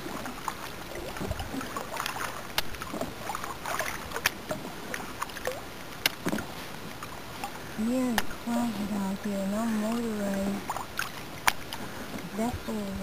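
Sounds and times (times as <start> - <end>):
paddle strokes splashing: 0.0 - 13.0.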